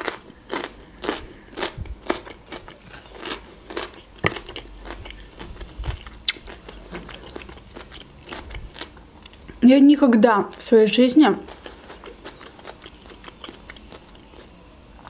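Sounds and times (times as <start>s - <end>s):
crunchy chewing: 0.0s - 9.6s, 11.4s - 15.0s.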